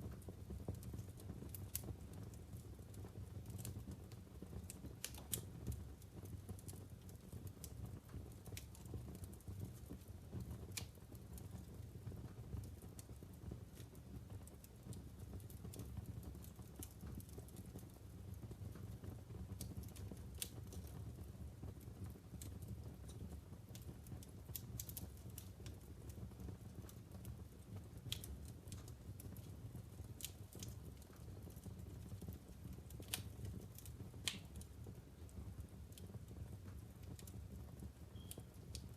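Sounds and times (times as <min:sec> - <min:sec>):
logs crackling and popping: 0:00.0 - 0:38.9.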